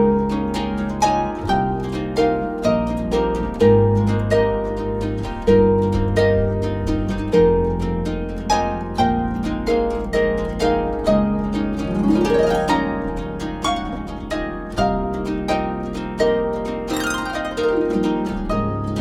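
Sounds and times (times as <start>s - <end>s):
harp music: 0.0s - 19.0s.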